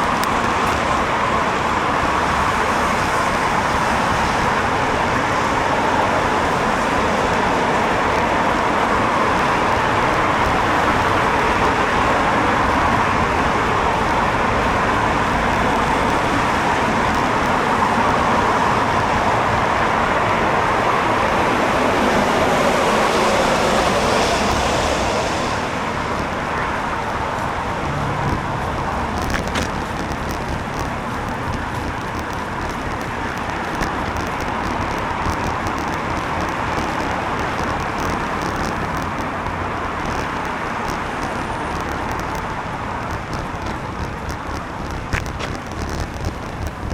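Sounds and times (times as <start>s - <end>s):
rain: 0.0s - 46.9s
traffic on wet road: 0.0s - 46.9s.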